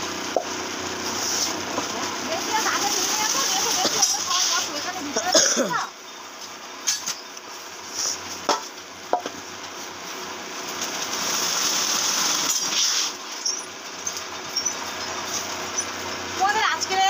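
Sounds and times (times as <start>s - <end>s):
rice frying hiss: 0.0s - 17.0s.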